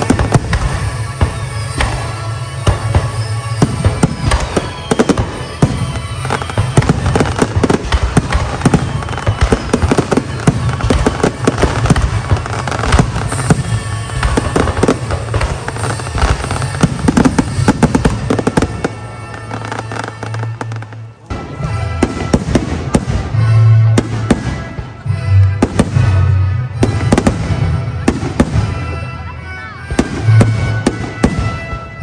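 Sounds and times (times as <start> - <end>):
fireworks bursting and crackling: 0.0 - 32.0
fireworks falling whistles: 0.0 - 32.0.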